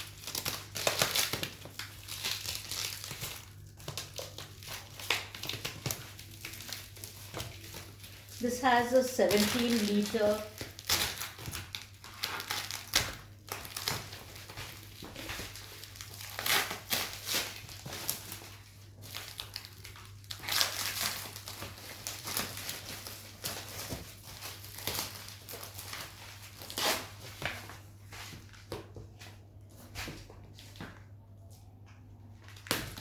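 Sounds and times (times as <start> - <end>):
plastic packaging crinkling: 0.0 - 29.0.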